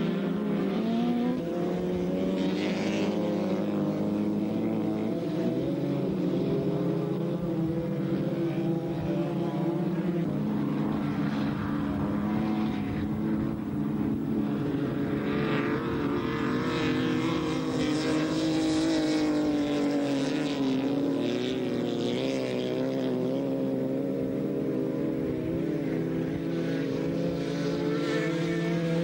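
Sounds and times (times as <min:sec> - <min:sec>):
race car engines passing: 0:00.0 - 0:29.0.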